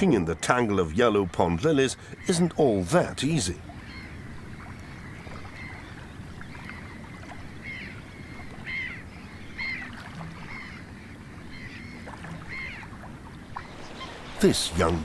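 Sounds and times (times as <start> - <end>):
grebes piping calls: 0.0 - 15.0
water splashing and lapping: 2.0 - 15.0.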